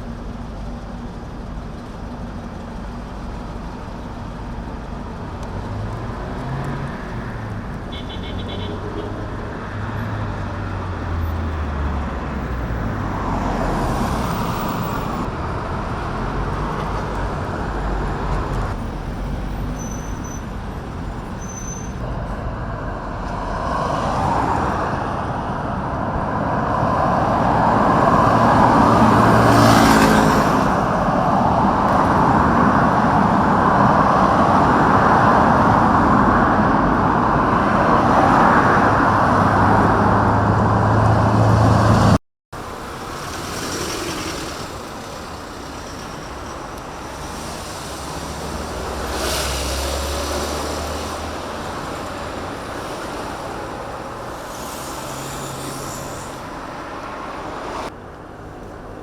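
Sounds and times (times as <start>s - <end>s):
traffic hum: 0.0s - 59.0s
vehicles passing: 0.0s - 59.0s.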